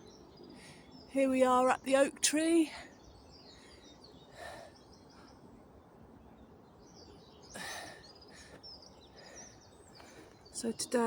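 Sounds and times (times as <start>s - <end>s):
small birds chirping and singing: 0.0s - 11.0s.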